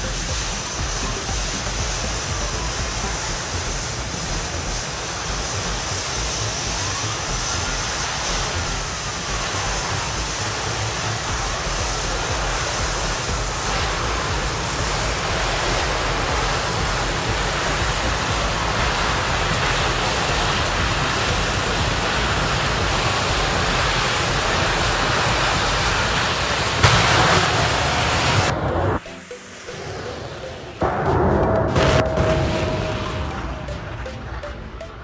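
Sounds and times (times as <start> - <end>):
jet engine roaring: 0.0 - 35.0.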